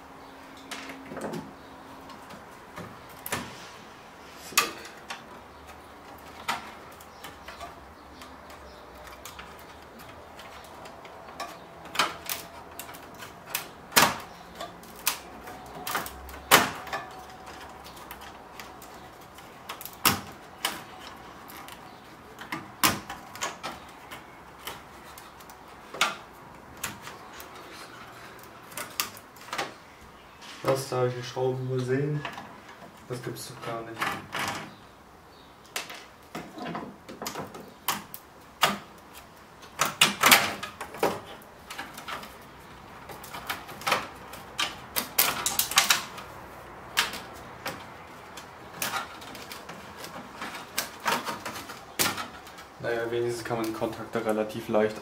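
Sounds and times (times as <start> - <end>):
hands handling metal and circuit boards: 0.2 - 55.0.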